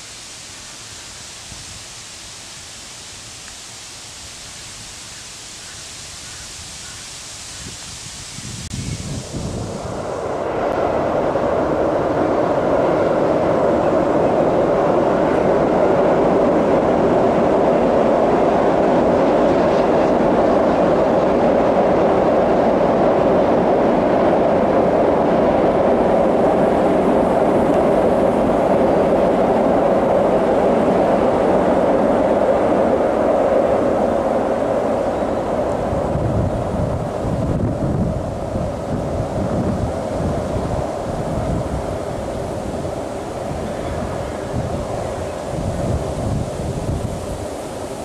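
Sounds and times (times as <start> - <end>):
train rumbling over steel bridge: 7.6 - 48.0.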